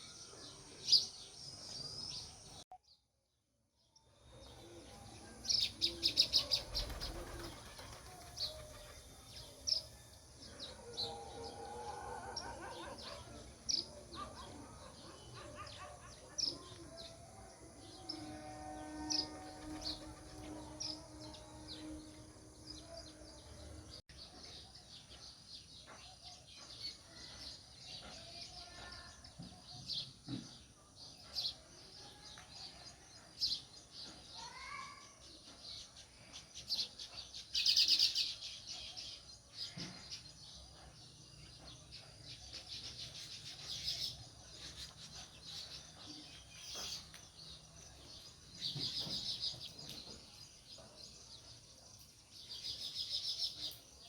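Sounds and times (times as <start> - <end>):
sparrows chirping: 0.0 - 2.6, 3.9 - 54.0.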